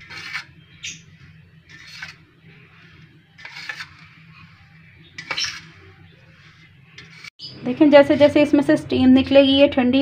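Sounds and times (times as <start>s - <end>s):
metal spatula scraping steel bowl: 0.0s - 8.7s.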